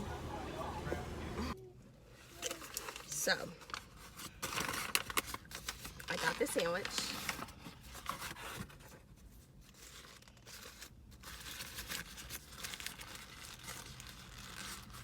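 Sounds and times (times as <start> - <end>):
paper bag rustling and crinkling: 2.2 - 15.0.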